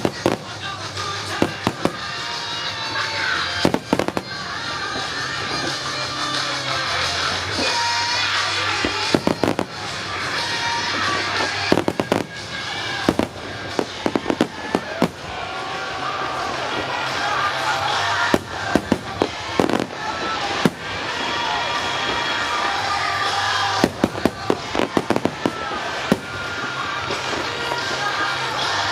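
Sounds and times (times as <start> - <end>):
fireworks bangs and pops: 0.0 - 28.9
music: 0.0 - 28.9.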